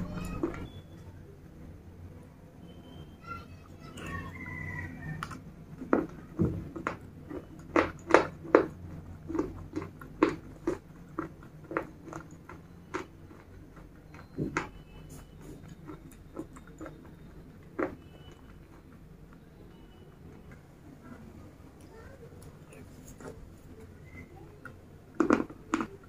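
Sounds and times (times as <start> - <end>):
crisp chewing crunches: 4.0 - 26.0.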